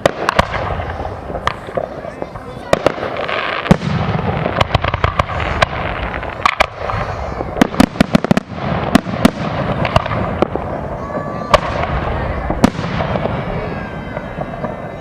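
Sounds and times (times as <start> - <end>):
fireworks booming: 0.0 - 15.0
fireworks crackle: 0.0 - 15.0.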